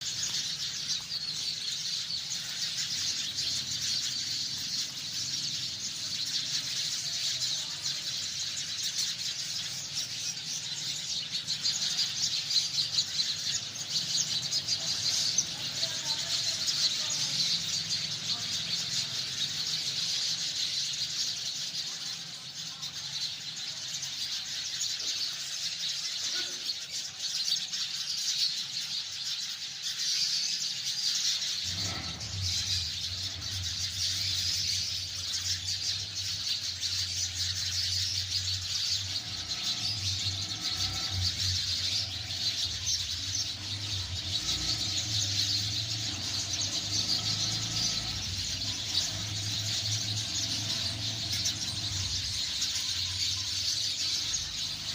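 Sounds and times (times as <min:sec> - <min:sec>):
sparrows chirping: 0:00.0 - 0:54.9.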